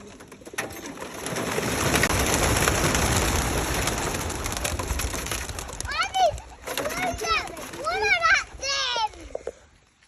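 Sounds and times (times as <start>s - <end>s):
pigeon wings clattering: 0.0s - 8.9s.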